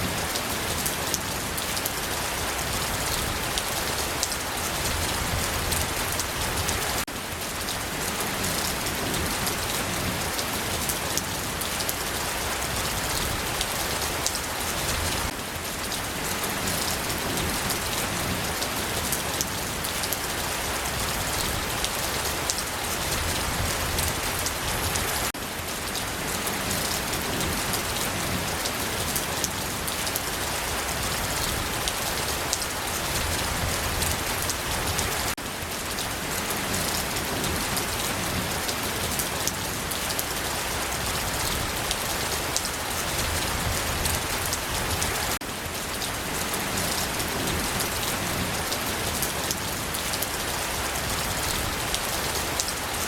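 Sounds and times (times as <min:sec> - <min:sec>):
steady rain patter: 0:00.0 - 0:53.0.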